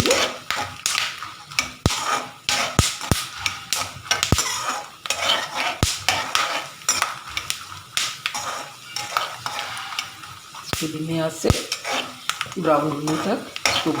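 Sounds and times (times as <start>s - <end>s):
metal spoon scraping a pan: 0.0s - 14.0s.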